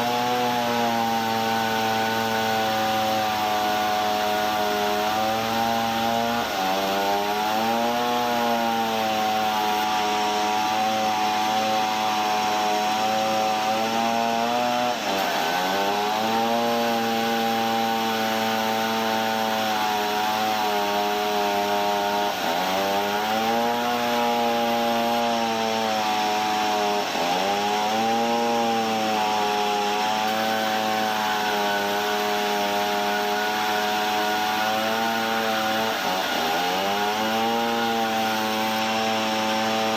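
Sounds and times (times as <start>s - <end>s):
sawmill saw cutting: 0.0s - 39.9s.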